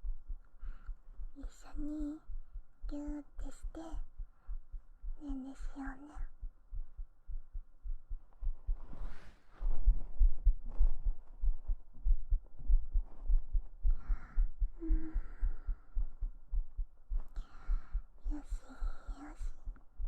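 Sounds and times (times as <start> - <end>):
heartbeat thumps: 0.0 - 20.0.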